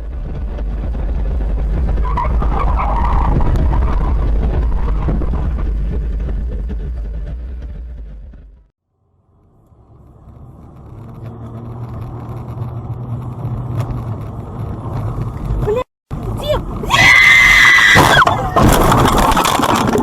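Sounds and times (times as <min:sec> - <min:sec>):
heavy vehicle rumble: 0:00.0 - 0:20.0.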